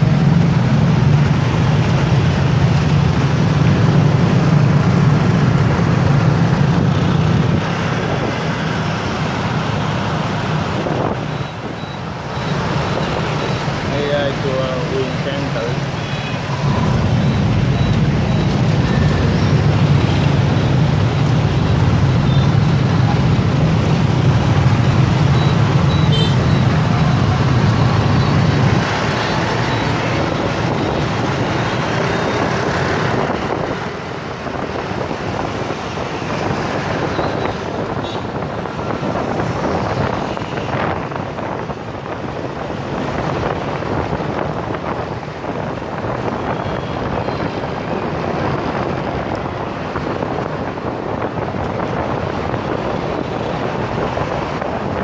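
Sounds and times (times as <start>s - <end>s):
traffic hum: 0.0s - 55.0s
tyres on road: 0.0s - 55.0s.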